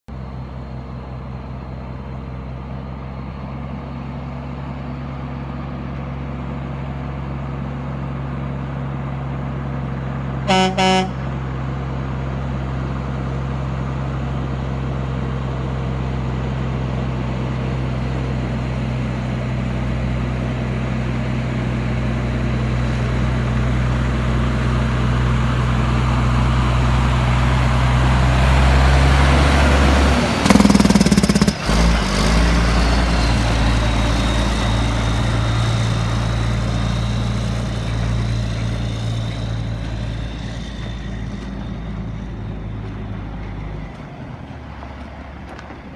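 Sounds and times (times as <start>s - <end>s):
dump truck diesel engine: 0.1s - 45.9s.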